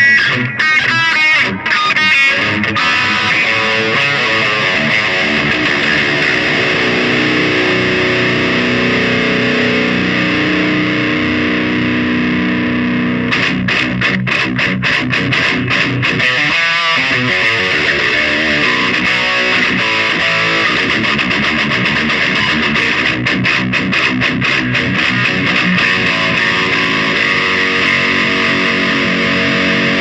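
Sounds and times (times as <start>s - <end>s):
distorted electric guitar chugging: 0.0s - 30.0s.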